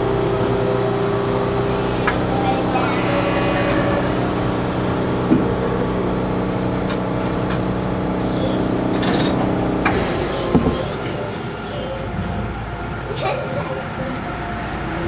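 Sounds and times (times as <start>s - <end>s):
transit car humming: 0.0s - 15.0s.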